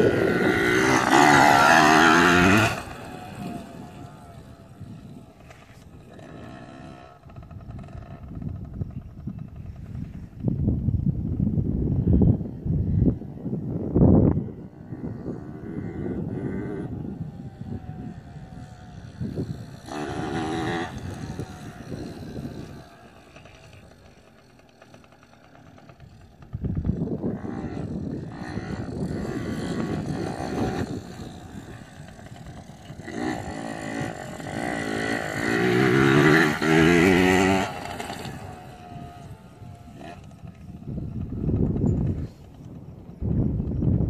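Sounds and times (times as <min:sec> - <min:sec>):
dirt bike engine revving: 0:00.0 - 0:10.6, 0:13.8 - 0:44.0.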